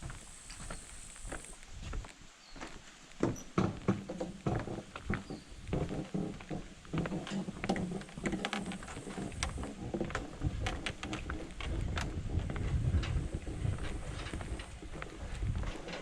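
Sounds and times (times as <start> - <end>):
footsteps on stones and gravel: 0.0 - 16.0.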